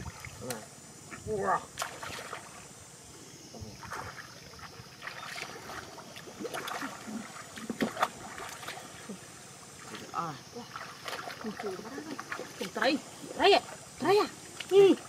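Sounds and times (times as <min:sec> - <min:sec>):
muddy water sloshing: 0:00.0 - 0:02.9, 0:03.6 - 0:15.0.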